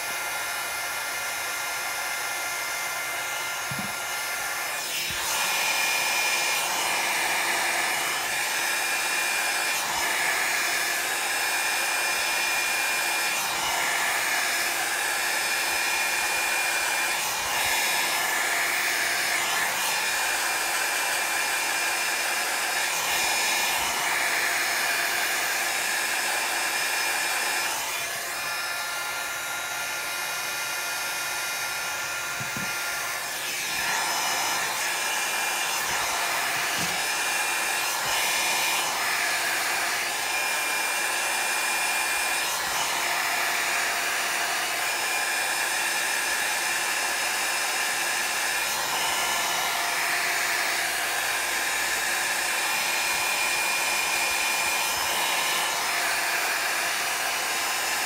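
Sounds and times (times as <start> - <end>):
electric air blower running: 0.0 - 58.0.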